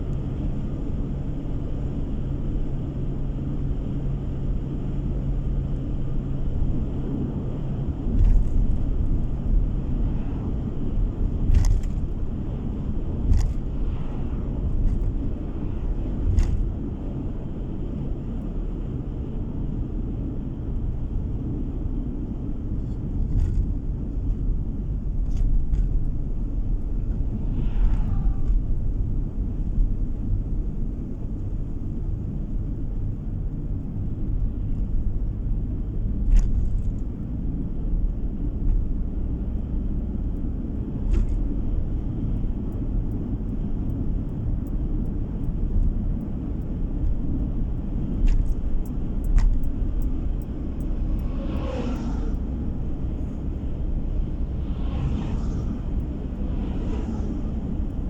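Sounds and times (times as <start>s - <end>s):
tyre and engine rumble: 0.0s - 58.0s.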